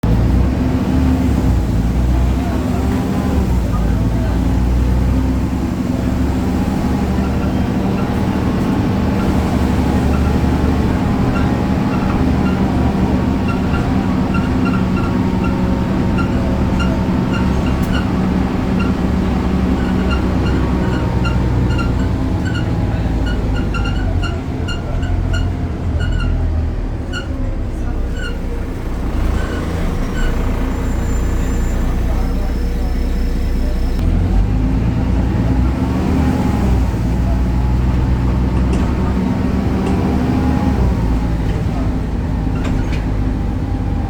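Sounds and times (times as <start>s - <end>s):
bus diesel engine drone: 0.0s - 44.0s.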